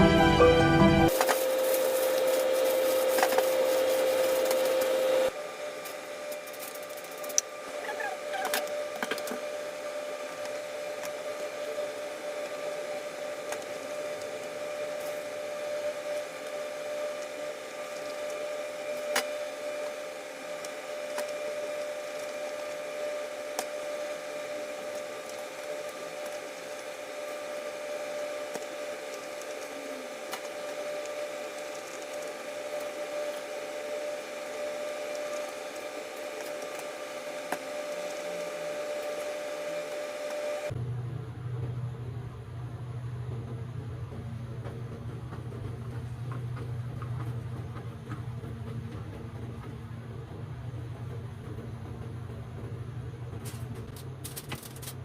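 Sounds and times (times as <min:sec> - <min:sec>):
kitchen fan whirring hum: 0:00.0 - 0:55.0.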